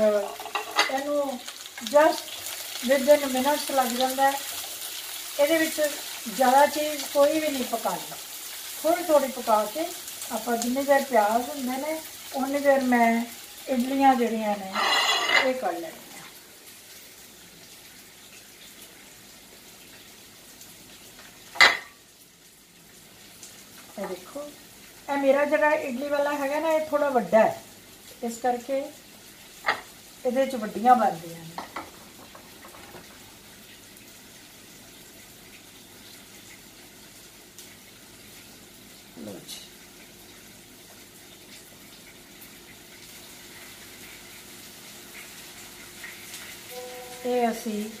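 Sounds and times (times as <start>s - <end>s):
faint steady hiss: 0.0s - 48.0s
onions sizzling in oil: 0.0s - 48.0s.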